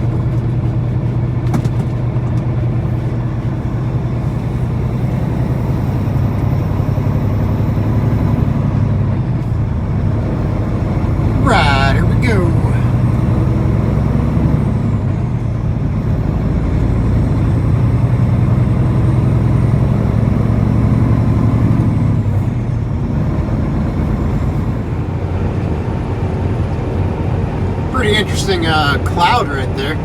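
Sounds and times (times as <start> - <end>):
diesel truck engine running: 0.0 - 30.0
road noise: 0.0 - 30.0.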